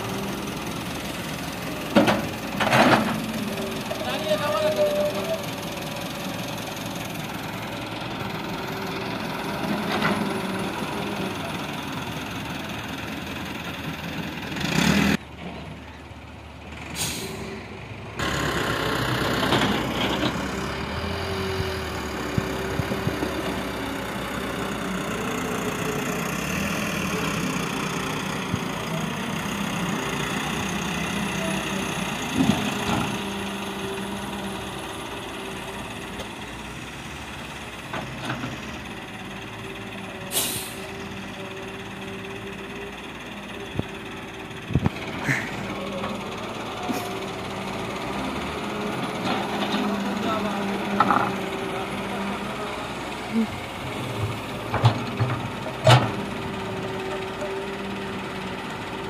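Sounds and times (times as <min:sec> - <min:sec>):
excavator digging and dumping soil: 0:00.0 - 0:12.8, 0:18.2 - 0:36.6, 0:37.3 - 0:59.0
excavator diesel engine running: 0:00.0 - 0:59.0.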